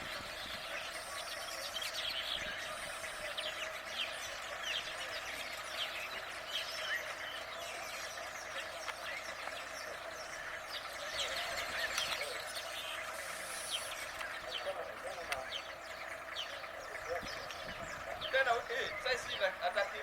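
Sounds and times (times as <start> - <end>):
birds chirping: 0.0 - 20.0
outdoor background hum: 0.0 - 20.0.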